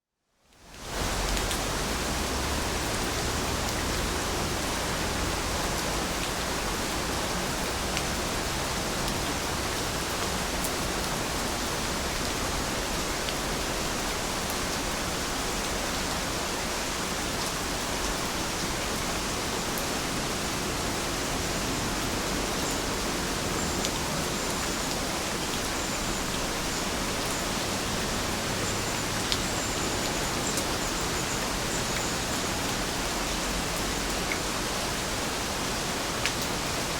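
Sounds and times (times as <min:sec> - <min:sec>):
heavy rain: 0:00.6 - 0:36.9.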